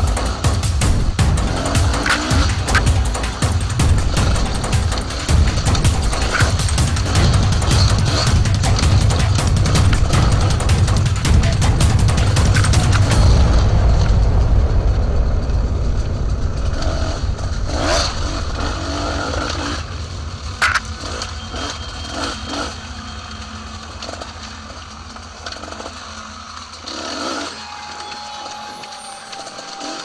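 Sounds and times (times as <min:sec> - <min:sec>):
sharp crack: 0:00.0 - 0:27.6
dirt bike engine: 0:00.0 - 0:30.0
knocks and scrapes: 0:00.2 - 0:27.5.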